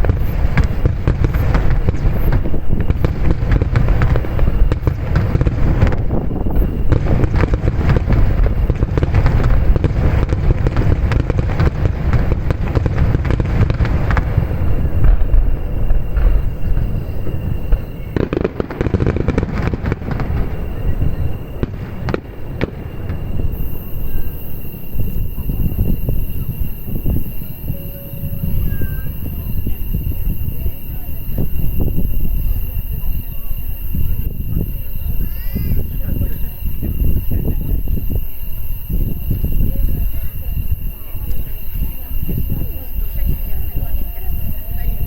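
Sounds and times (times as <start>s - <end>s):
firework shells bursting: 0.0s - 38.8s.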